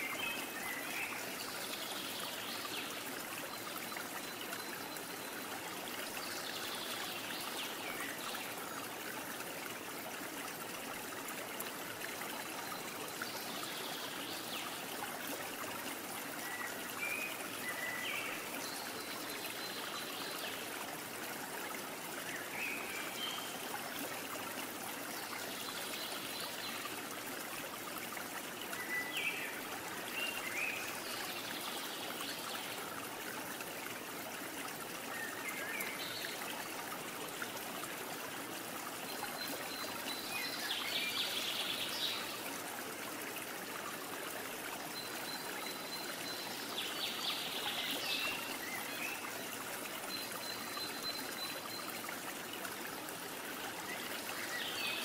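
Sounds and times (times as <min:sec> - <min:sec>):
stream water trickling: 0:00.0 - 0:55.0.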